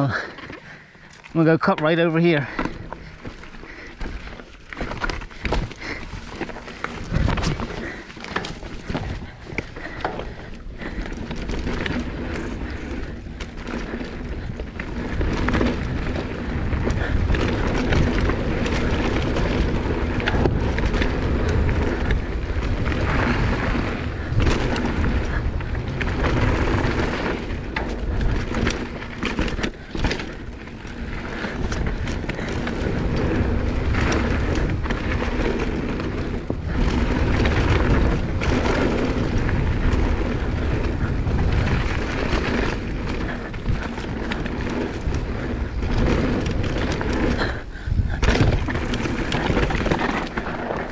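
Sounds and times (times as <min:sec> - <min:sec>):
bike tyre and chassis rattle: 0:00.0 - 0:50.9
wind buffeting microphone: 0:00.0 - 0:50.9.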